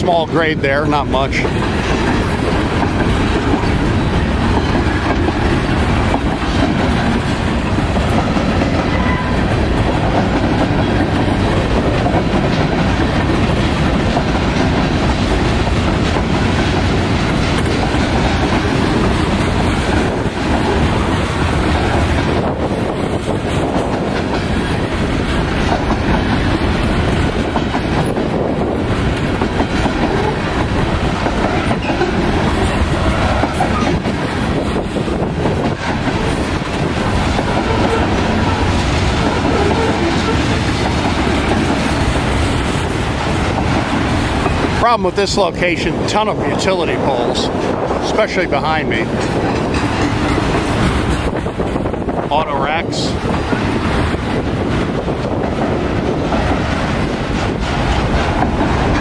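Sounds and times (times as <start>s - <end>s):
wheels clacking over rail joints: 0.0s - 48.4s, 49.0s - 52.3s, 53.2s - 59.0s
freight train wheels rumbling: 0.0s - 59.0s.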